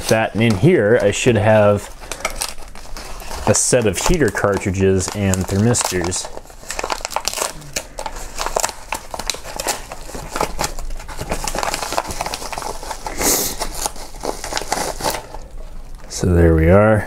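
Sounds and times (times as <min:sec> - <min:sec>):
paper envelope crinkling and rustling: 0:00.0 - 0:16.3.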